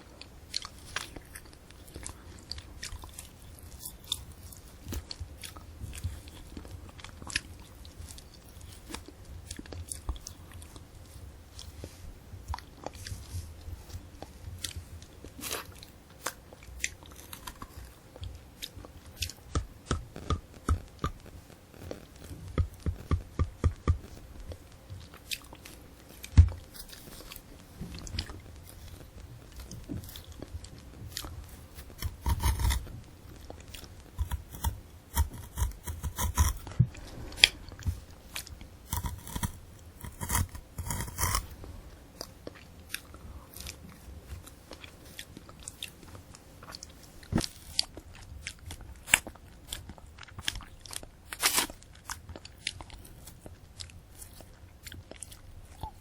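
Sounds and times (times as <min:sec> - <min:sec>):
crunching and chewing candy apple: 0:00.0 - 0:56.0.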